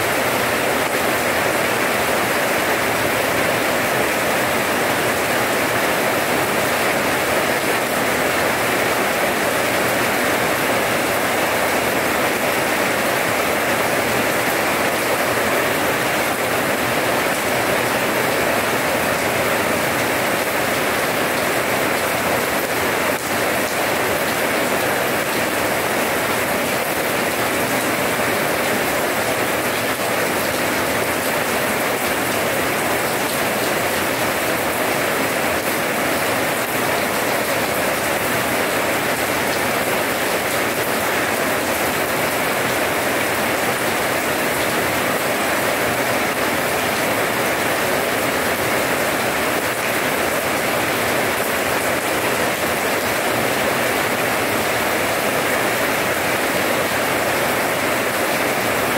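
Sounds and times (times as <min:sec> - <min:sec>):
rain on wet paving stones: 0:00.0 - 0:58.9.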